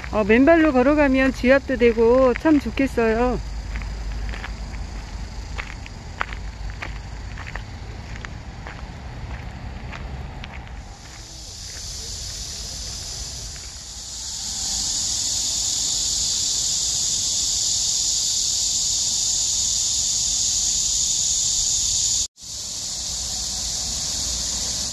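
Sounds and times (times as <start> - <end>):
high-pitched insect chorus: 0.0 - 24.9.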